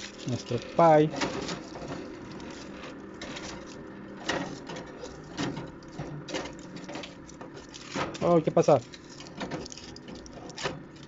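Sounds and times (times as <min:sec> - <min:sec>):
oven fan humming: 0:00.0 - 0:11.0.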